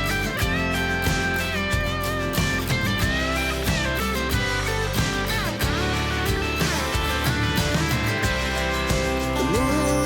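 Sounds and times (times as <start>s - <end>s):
instrumental pop music with guitar: 0.0s - 10.0s.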